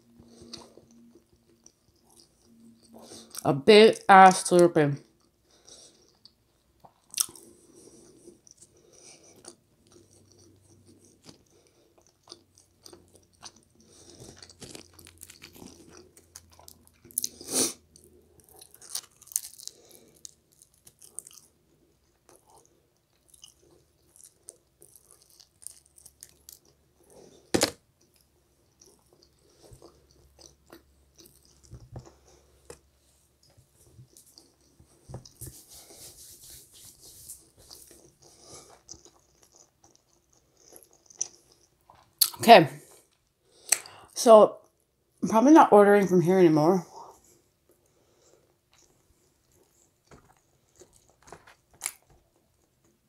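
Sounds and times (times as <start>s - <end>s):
pizza being chewed: 0.0s - 3.5s, 5.0s - 44.0s, 47.2s - 53.0s.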